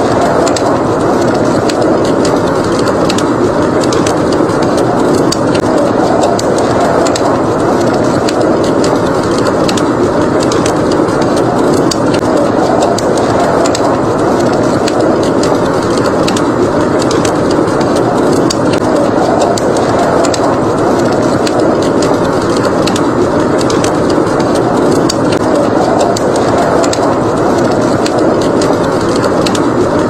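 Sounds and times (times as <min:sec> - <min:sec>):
blizzard wind rushing: 0:00.0 - 0:30.0
wood fire crackling and popping: 0:00.0 - 0:30.0.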